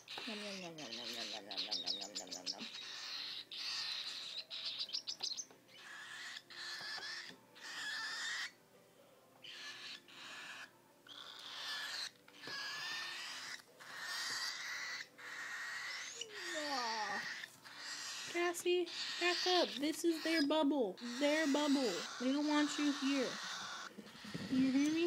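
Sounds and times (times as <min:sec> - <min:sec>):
cockatiel chicks hissing calls: 0:00.0 - 0:08.6, 0:09.4 - 0:25.0.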